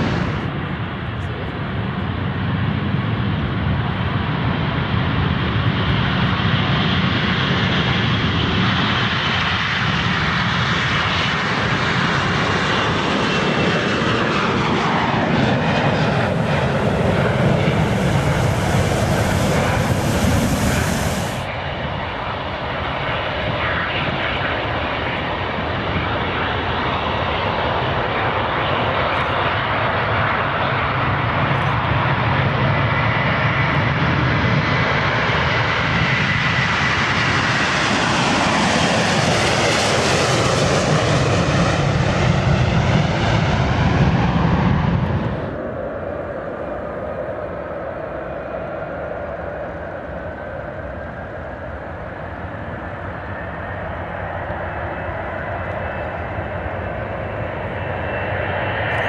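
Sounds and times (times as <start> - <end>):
jet airliner taking off: 0.0 - 59.0
twin-engine jet accelerating on runway: 0.0 - 59.0.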